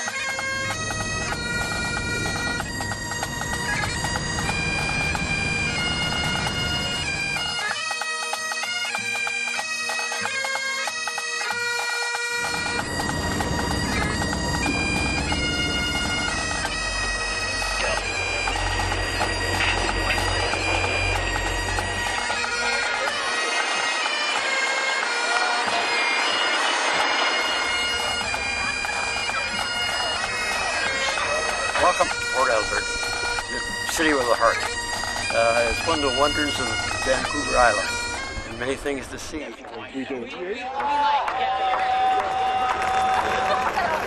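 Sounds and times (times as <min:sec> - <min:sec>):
bagpipes playing a tune: 0:00.0 - 0:39.6.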